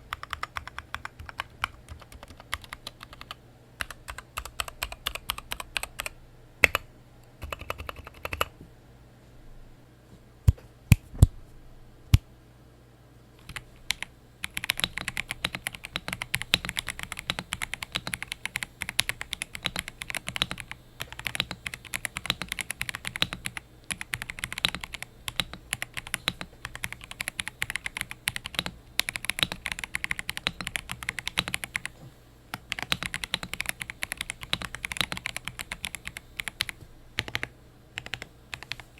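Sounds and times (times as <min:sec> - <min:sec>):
typing on mechanical keyboard: 0:00.0 - 0:06.8, 0:07.4 - 0:08.5, 0:13.4 - 0:31.9, 0:32.5 - 0:38.9.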